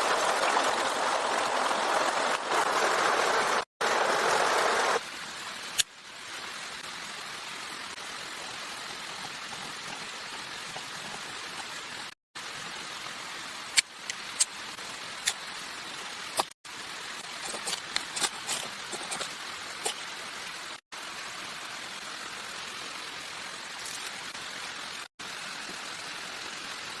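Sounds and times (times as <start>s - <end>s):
steady water-like hiss: 0.0s - 27.0s.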